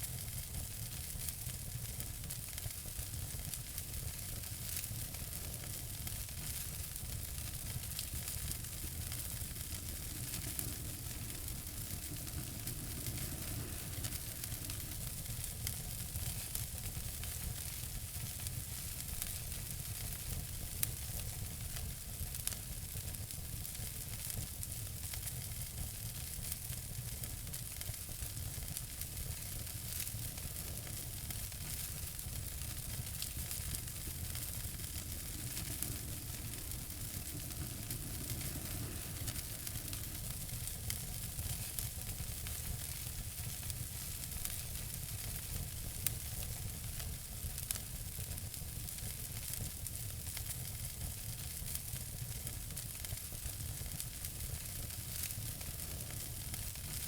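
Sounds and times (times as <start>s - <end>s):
sharp fire pops: 0.0s - 22.6s, 23.2s - 57.0s
fireplace fire crackling: 0.0s - 57.0s.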